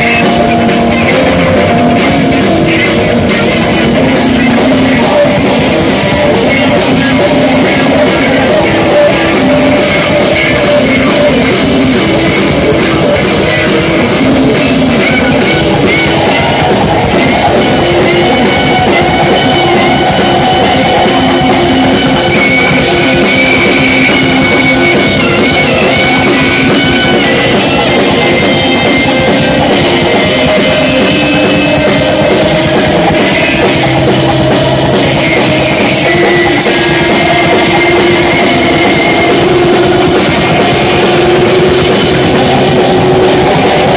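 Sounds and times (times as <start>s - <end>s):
jazz-rock band playing: 0.0s - 43.9s
wavering held lead line: 0.0s - 43.9s.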